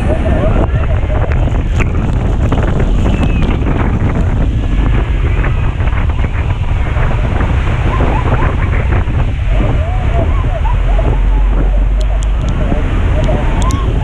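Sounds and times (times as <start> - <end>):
churning water rushing: 0.0 - 14.0
wind buffeting microphone: 0.0 - 14.0.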